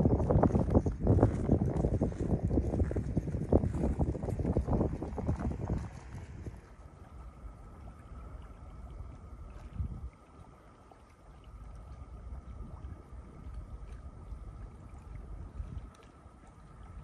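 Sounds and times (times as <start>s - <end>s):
de-icer churning water: 0.0s - 17.0s
faint constant hum: 0.0s - 17.0s.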